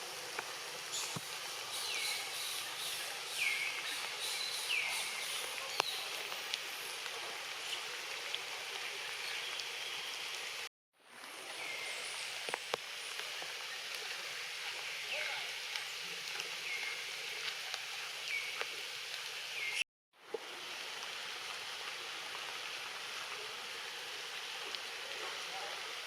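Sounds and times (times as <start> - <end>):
rain hiss in forest: 0.0 - 26.0.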